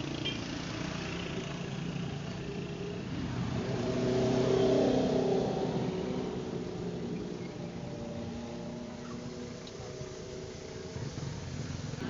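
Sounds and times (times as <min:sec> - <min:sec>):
vehicle engine at high revs: 0:00.0 - 0:12.0.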